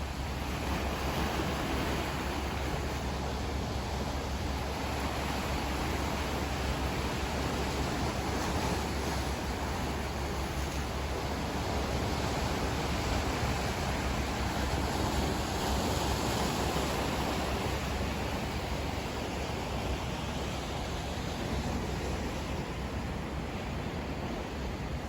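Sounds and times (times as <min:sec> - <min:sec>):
sea surf washing on shore: 0:00.0 - 0:25.0.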